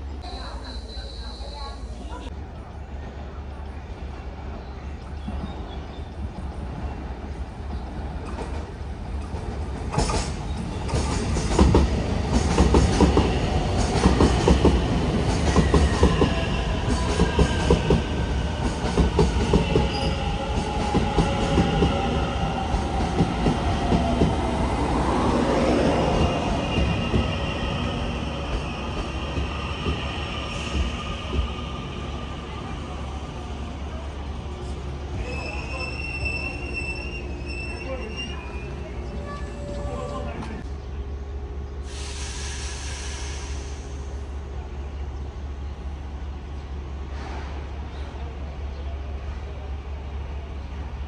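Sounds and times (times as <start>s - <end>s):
steady train rumble: 0.0s - 51.0s.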